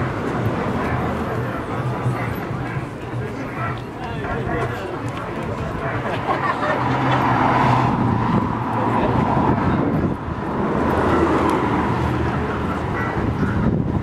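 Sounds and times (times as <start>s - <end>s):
people talking: 0.0s - 14.0s.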